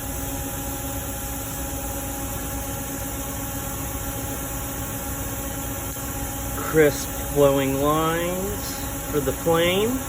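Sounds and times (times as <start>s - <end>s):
background hum with hiss: 0.0s - 10.0s.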